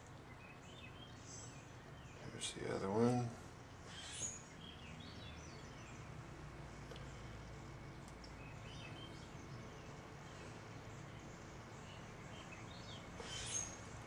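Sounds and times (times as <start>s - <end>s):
low background hiss: 0.0s - 14.0s
faint bird chirps: 0.1s - 2.6s, 3.8s - 6.2s, 7.0s - 14.0s.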